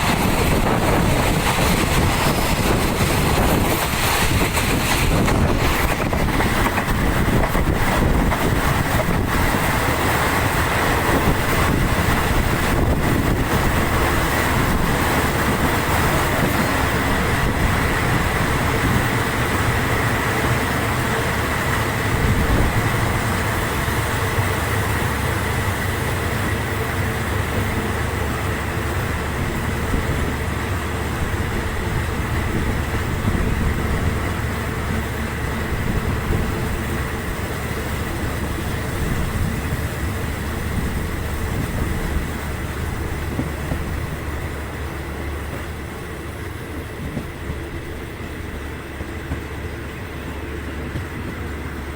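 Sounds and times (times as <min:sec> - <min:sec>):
train rumbling and rattling: 0:00.0 - 0:51.9.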